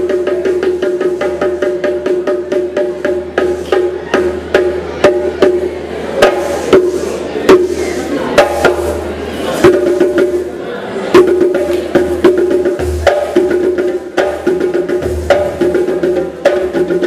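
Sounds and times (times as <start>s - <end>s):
percussion strikes: 0.0s - 17.0s.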